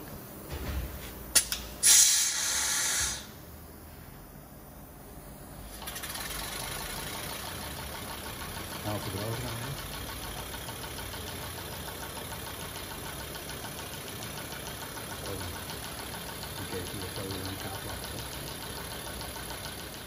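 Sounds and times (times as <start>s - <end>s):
air motor hissing and rattling: 0.0s - 3.4s, 5.6s - 20.0s.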